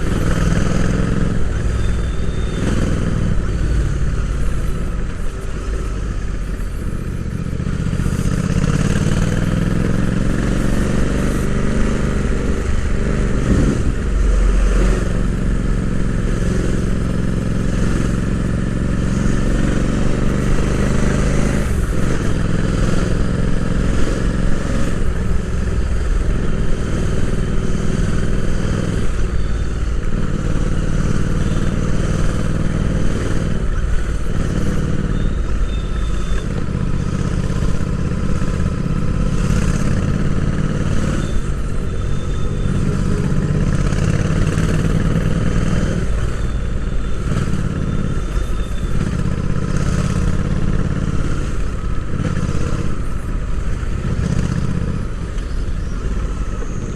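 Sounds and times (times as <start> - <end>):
motorcycle engine while riding: 0.0 - 56.9.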